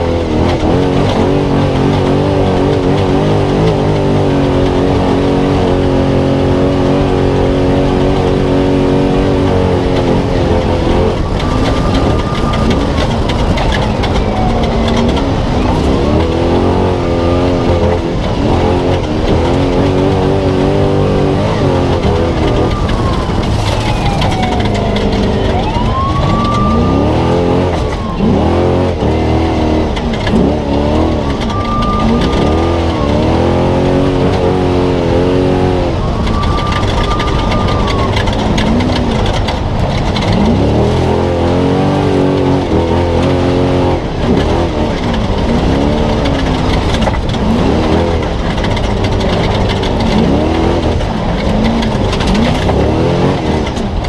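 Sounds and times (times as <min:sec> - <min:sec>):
rattle and road noise: 0:00.0 - 0:54.0
truck engine revving: 0:00.0 - 0:54.0.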